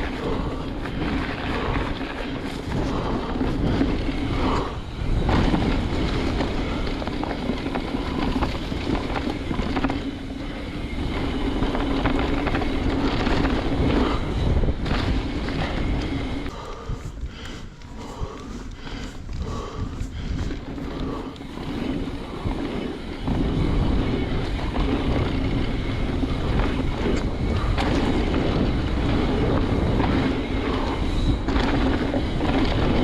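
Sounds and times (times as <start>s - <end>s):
bike tyre hum on dirt trail: 0.0s - 33.0s
wind rushing over microphone: 0.0s - 33.0s.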